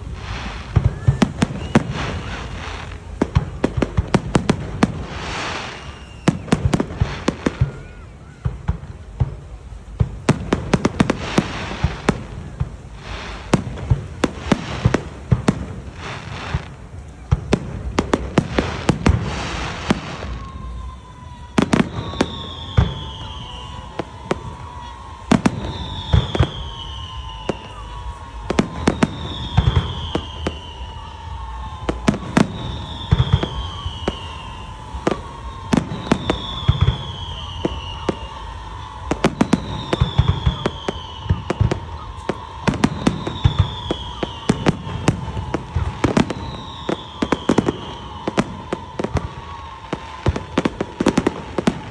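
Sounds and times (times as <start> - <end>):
falling whistle tone: 0.0 - 8.6, 10.5 - 51.9
firework bangs and crackling: 0.0 - 51.9.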